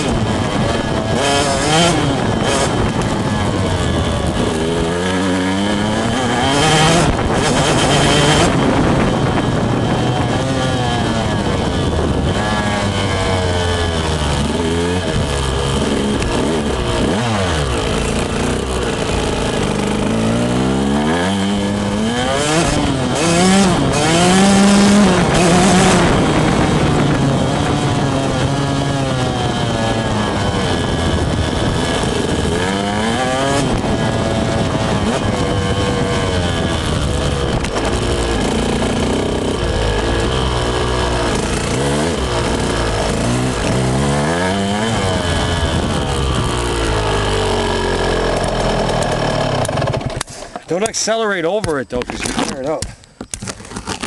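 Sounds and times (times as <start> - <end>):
dirt bike engine revving: 0.0 - 52.5.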